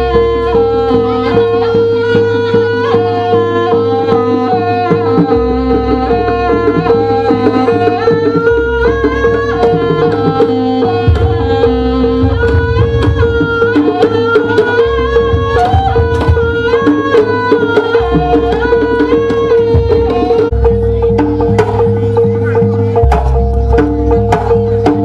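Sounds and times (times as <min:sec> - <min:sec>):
deep drum beats: 0:00.0 - 0:25.0
gamelan music: 0:00.0 - 0:25.0
hand drums: 0:00.0 - 0:25.0.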